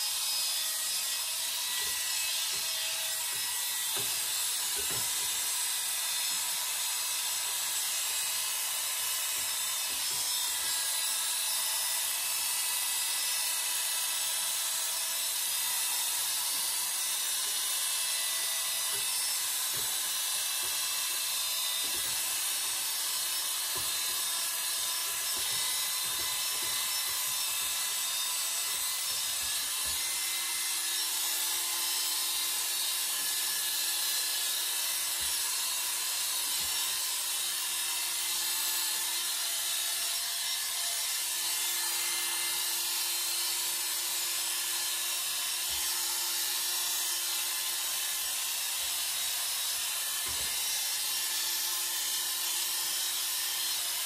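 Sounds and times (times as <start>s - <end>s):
electric hair clippers buzzing: 0.0s - 54.0s.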